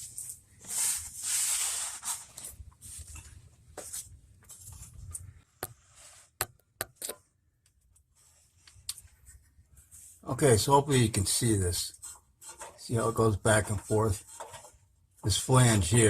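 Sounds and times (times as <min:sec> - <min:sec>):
rustling and scraping handling noise: 0:00.0 - 0:16.0.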